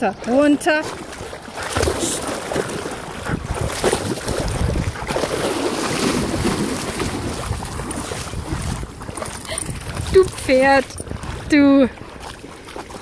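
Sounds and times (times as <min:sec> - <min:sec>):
dog splashing through water: 0:00.2 - 0:13.0.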